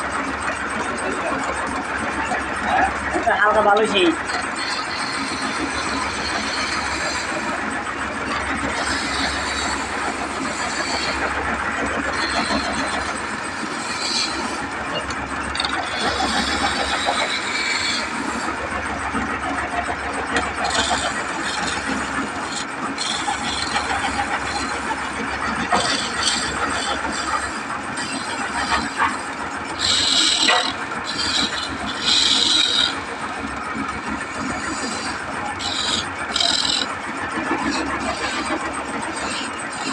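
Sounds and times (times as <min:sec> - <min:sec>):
chisel cutting spinning wood: 0:00.0 - 0:39.9
wood lathe running: 0:00.0 - 0:39.9.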